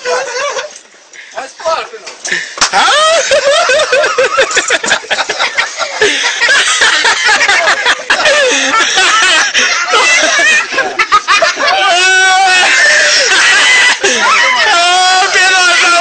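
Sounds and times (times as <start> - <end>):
people laughing loudly: 0.0 - 0.8, 2.3 - 16.0
overlapping voices: 2.1 - 16.0.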